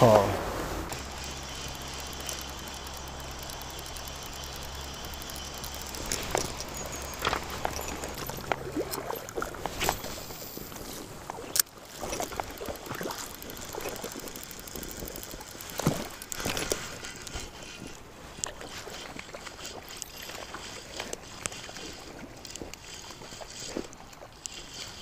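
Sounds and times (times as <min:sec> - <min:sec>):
river water splashing and gurgling: 0:00.0 - 0:25.0.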